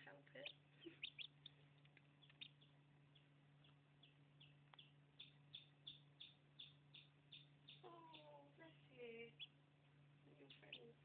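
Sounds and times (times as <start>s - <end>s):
chicks peeping: 0.1s - 11.0s.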